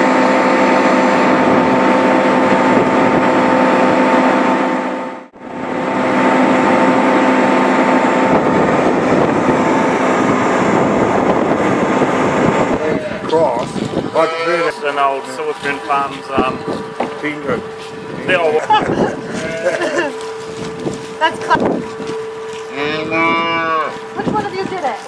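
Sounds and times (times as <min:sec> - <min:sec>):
tractor diesel engine running: 0:00.0 - 0:23.2, 0:23.8 - 0:25.0.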